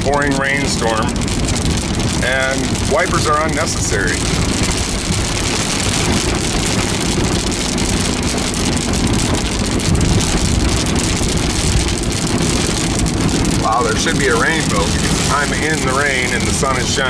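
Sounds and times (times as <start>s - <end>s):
rain pelting car windshield: 0.0s - 17.0s
road and engine noise: 0.0s - 17.0s.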